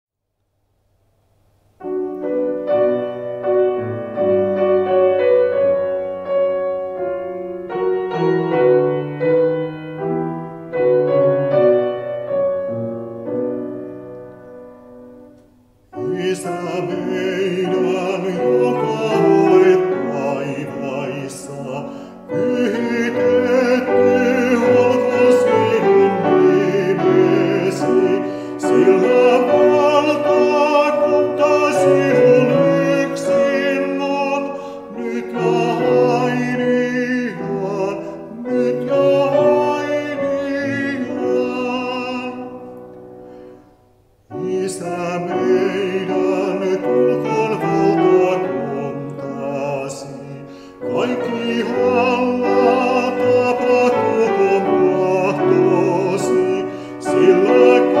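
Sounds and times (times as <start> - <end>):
slow classical piano: 0.2 - 58.0.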